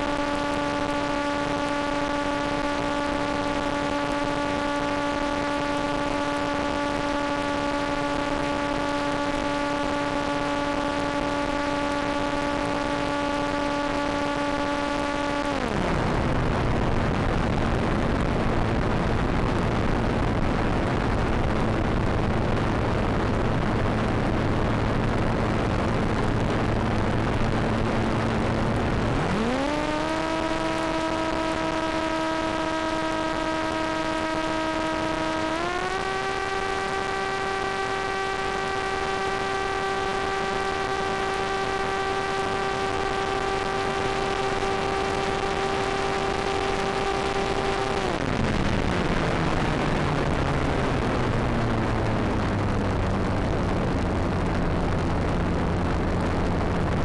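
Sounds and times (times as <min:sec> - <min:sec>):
electric motor whine: 0:00.0 - 0:57.0
low hum: 0:00.0 - 0:57.0.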